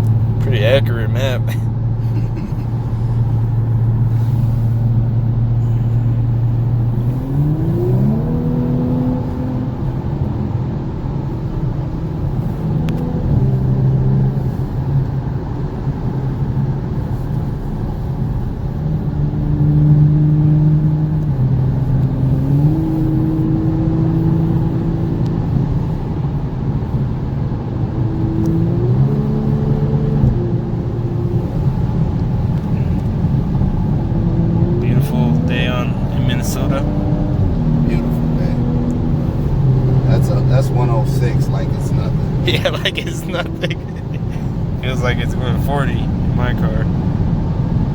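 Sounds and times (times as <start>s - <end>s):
car engine running: 0.0s - 47.9s
tyre and road noise: 0.0s - 47.9s.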